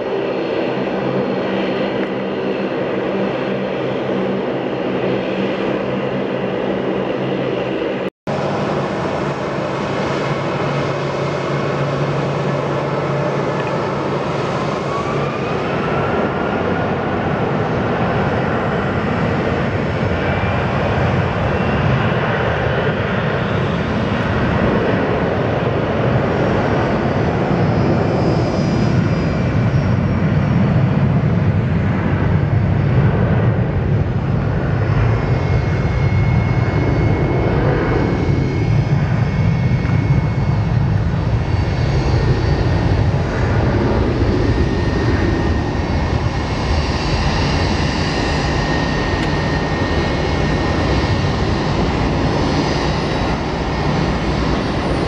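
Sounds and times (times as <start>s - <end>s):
high jet engine whine: 0.0s - 55.0s
jet engines rumbling: 0.0s - 55.0s.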